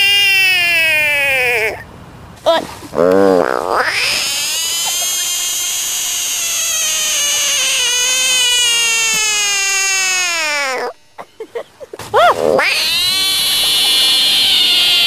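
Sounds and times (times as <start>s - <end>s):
frog distress scream: 0.0s - 1.8s, 3.0s - 11.4s, 12.2s - 15.0s.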